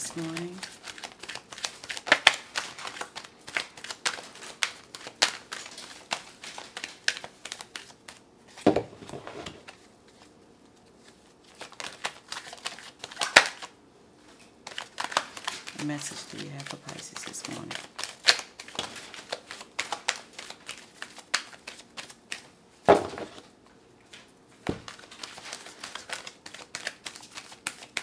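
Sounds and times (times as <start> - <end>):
cards being shuffled: 0.0 - 13.7, 14.3 - 23.5, 24.6 - 28.0.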